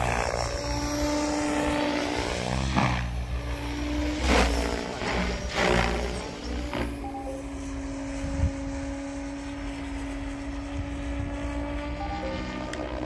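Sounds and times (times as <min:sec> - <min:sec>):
rc helicopter rotor hum: 0:00.0 - 0:13.0.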